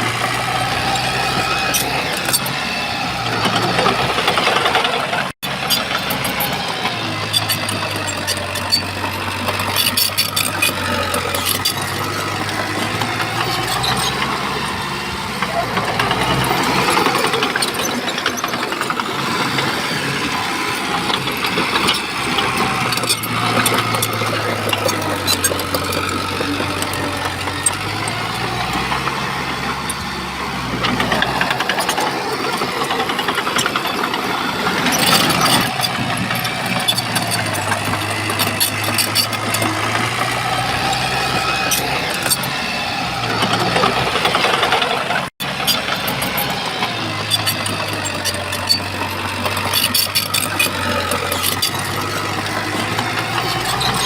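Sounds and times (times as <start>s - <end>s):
bulldozer diesel engine: 0.0s - 54.0s
metal clanks and rattles: 0.2s - 54.0s.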